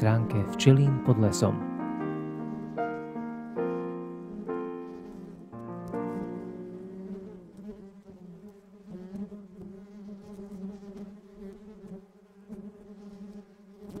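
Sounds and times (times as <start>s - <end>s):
honeybee colony humming: 0.0s - 14.0s.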